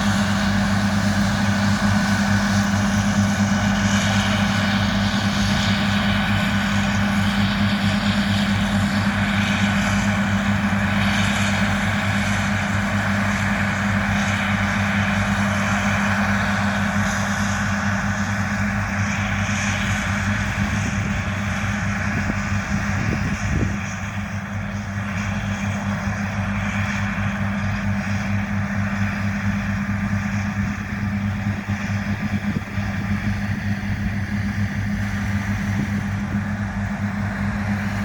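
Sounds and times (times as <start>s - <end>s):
farm machine engine running: 0.0s - 38.0s.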